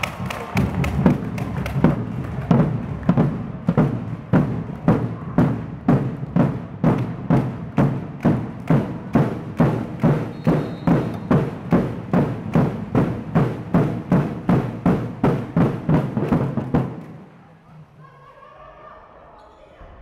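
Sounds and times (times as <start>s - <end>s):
crowd drumming: 0.0s - 17.3s
bass drum beating: 0.4s - 17.0s.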